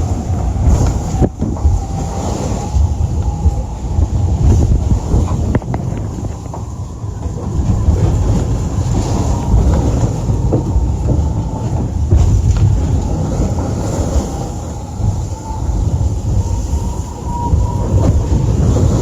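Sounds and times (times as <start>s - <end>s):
yacht hull rumbling through sea: 0.0s - 19.0s.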